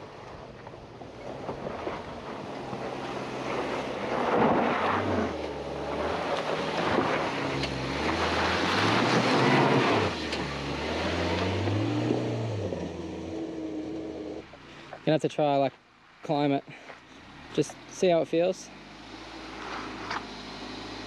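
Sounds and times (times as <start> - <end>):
car engine over rough ground: 0.0 - 15.1, 16.3 - 21.0.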